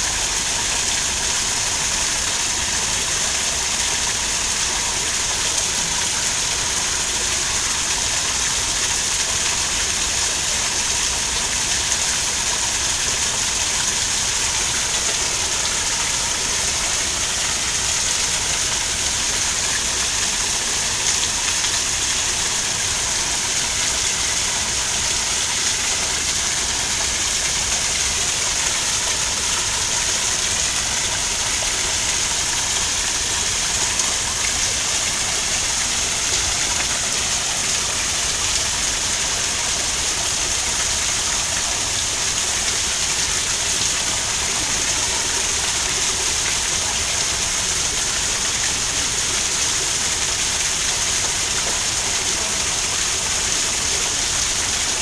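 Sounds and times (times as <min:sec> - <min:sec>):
waterfall pouring over rocks: 0:00.0 - 0:55.0.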